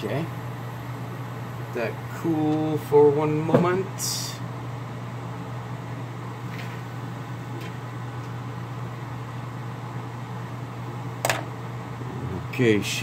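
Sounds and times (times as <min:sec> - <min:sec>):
machine or fan humming: 0:00.0 - 0:13.0.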